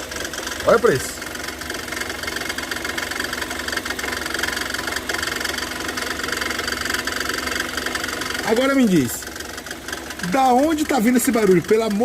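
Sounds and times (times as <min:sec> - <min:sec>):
car engine running: 0:00.0 - 0:12.0
fast chattering belt noise: 0:00.0 - 0:12.0.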